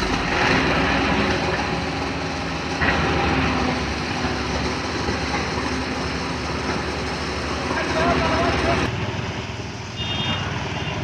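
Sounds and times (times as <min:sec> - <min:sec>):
construction machinery engine running: 0:00.0 - 0:11.0.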